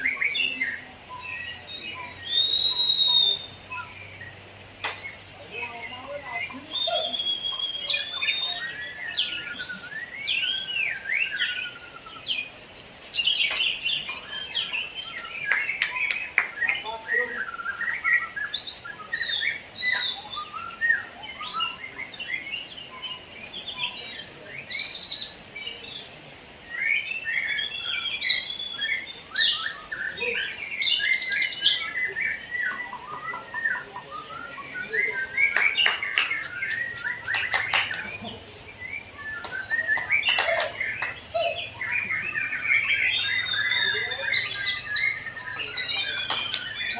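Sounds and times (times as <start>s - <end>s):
songbirds chorus: 0.0s - 46.9s.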